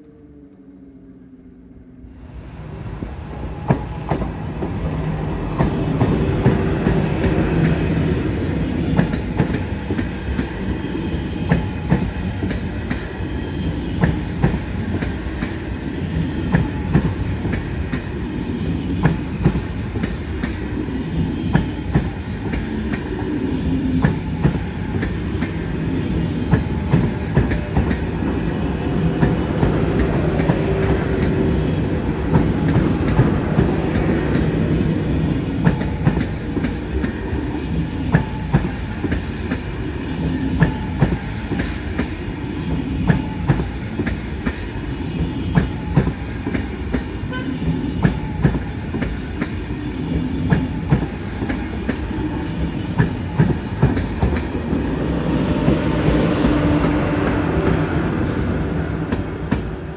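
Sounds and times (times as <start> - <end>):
train deep rumble: 0.1 - 59.9
train wheels clicking: 3.0 - 59.9.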